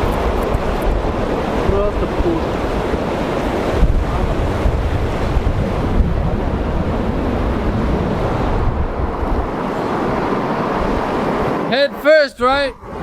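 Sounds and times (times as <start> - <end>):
fast river rushing: 0.0 - 13.0
wind buffeting microphone: 0.0 - 13.0.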